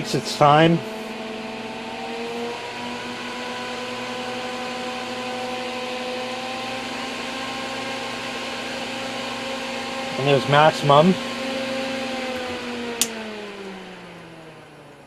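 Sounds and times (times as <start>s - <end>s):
fan whirring with rising pitch: 0.0s - 15.0s.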